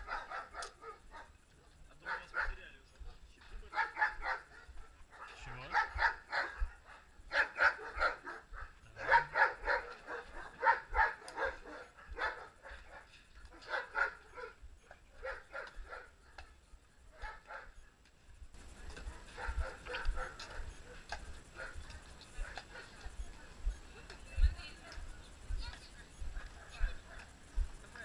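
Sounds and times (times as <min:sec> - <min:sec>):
horse hooves walking: 0:00.0 - 0:28.0.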